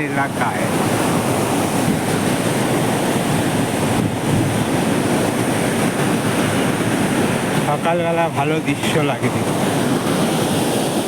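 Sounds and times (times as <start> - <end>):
river water rushing through gates: 0.0 - 11.0.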